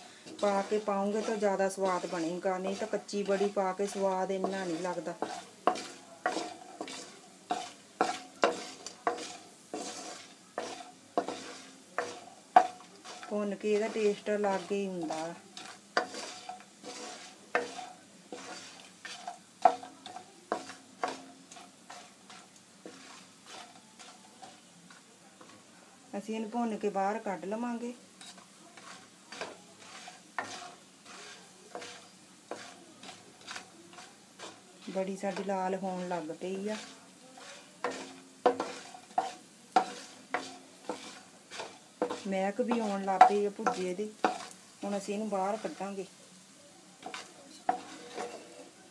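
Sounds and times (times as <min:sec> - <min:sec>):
faint sizzle: 0:00.0 - 0:48.9
wooden spatula knocking a pan: 0:00.3 - 0:25.6, 0:28.3 - 0:45.9, 0:47.0 - 0:48.6.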